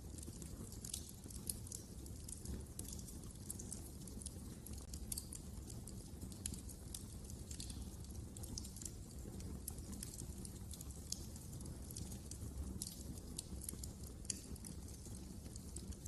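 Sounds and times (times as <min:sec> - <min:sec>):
fire crackling in fireplace: 0:00.0 - 0:16.0
low rumble of flames: 0:00.0 - 0:16.0
sharp pops of burning wood: 0:00.1 - 0:16.0.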